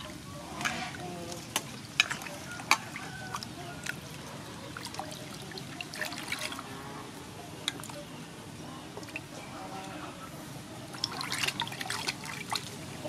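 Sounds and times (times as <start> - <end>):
water sloshing and trickling: 0.0 - 13.0.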